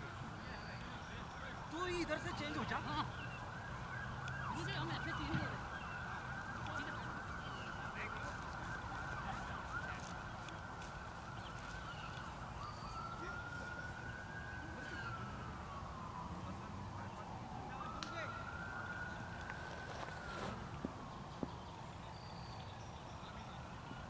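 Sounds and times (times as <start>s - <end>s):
faint emergency vehicle siren: 0.0s - 24.0s.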